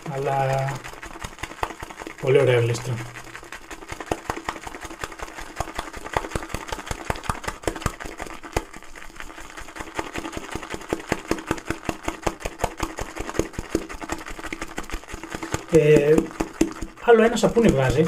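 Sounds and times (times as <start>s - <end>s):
shaving brush swishing lather: 0.0s - 18.0s.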